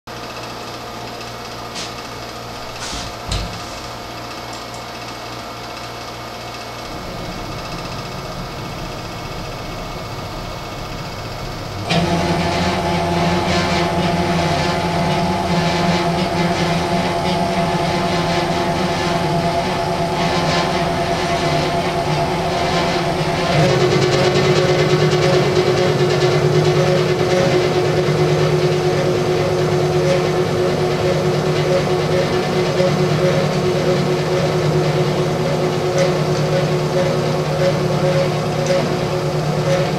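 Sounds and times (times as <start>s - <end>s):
milling machine motor hum: 0.1s - 39.9s
milling machine whine: 0.1s - 39.9s.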